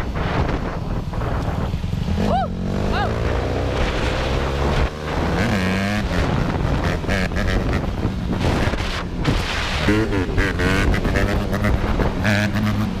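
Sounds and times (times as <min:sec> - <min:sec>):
dirt bike engines revving: 0:00.0 - 0:13.0
wind buffeting microphone: 0:00.0 - 0:13.0.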